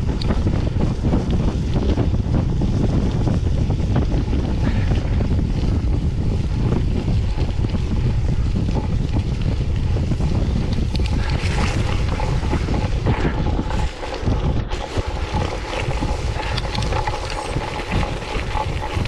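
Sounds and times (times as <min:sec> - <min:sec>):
bike rattling on rough trail: 0:00.0 - 0:19.0
wind rumbling on microphone: 0:00.0 - 0:19.0.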